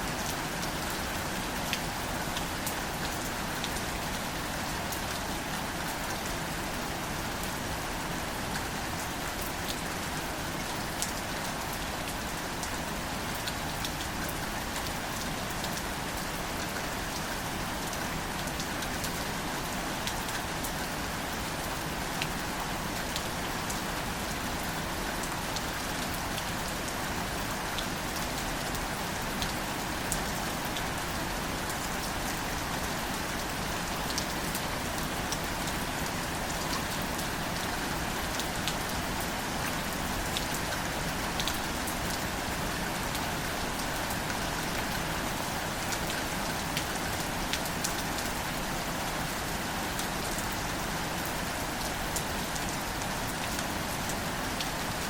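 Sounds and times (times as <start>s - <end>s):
gentle rain on plants: 0.0s - 55.0s.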